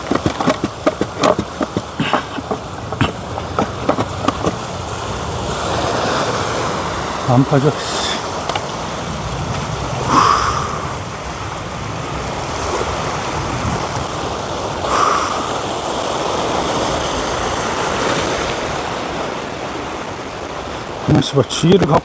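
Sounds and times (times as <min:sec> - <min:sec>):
waves washing on shore: 0:00.0 - 0:22.0.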